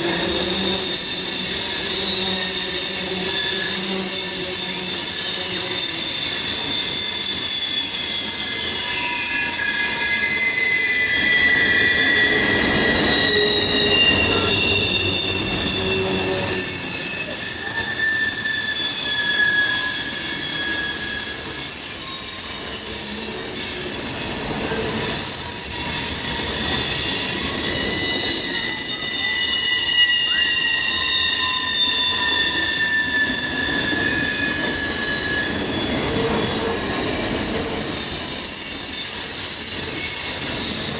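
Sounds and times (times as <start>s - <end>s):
rumble of wheels on track: 0.0s - 40.9s
train wheels squealing on rails: 0.0s - 40.9s.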